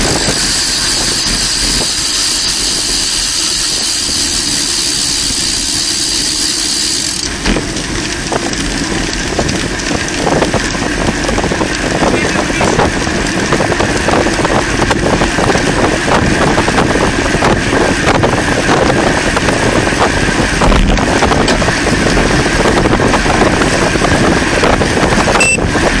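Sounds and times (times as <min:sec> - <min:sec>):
wind buffeting microphone: 0:00.0 - 0:05.7, 0:07.0 - 0:26.0
road and tyre noise: 0:00.0 - 0:26.0.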